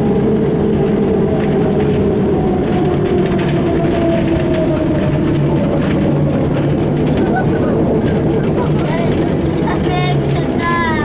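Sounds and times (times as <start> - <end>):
bus diesel engine with whine: 0.0 - 11.0.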